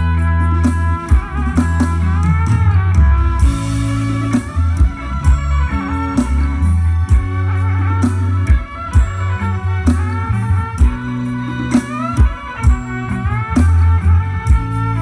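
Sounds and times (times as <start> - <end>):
rock music through loudspeakers: 0.0 - 15.0.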